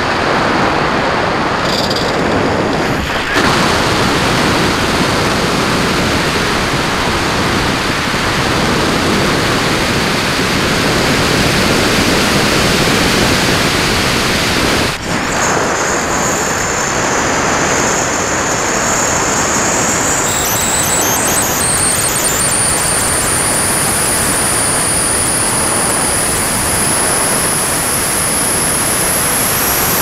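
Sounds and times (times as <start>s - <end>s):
steady high-pitched whine: 0.0s - 30.0s
wind rushing over camera: 0.0s - 30.0s.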